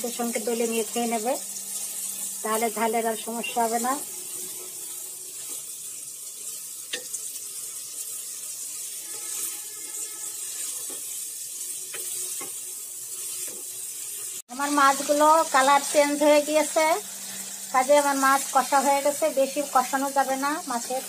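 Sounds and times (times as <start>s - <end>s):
prawns sizzling in a wok: 0.0s - 21.0s.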